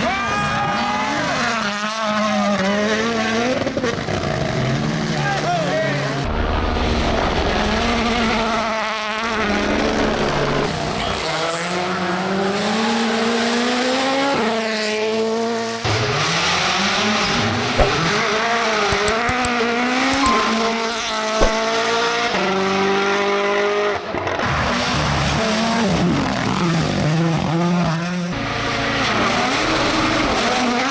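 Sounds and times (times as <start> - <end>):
rally car engines at full throttle: 0.0 - 17.7, 22.8 - 30.9.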